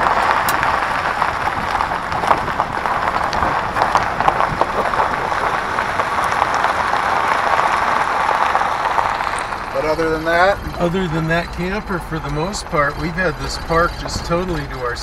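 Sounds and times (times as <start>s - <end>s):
tyres rolling on gravel: 0.0s - 15.0s.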